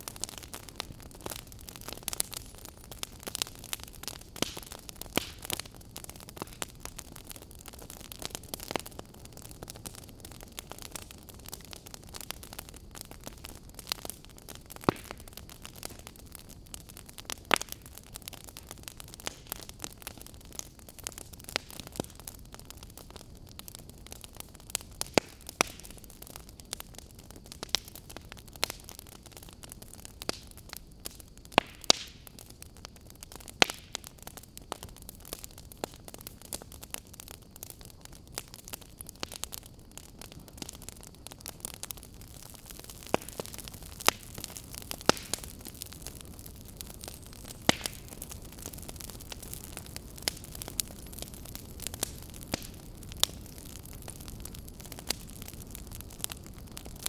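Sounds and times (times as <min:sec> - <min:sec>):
firewood crackling and popping: 0:00.0 - 0:57.0
wood fire hissing: 0:00.0 - 0:57.0.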